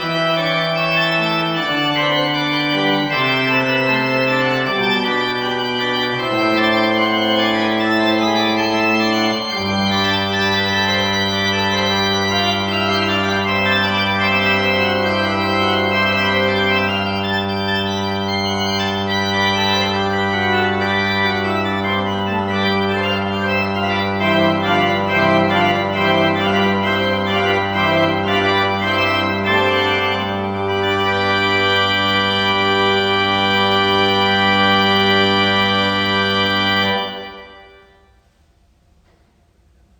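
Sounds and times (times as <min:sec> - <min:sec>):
church organ chords: 0:00.0 - 0:38.2.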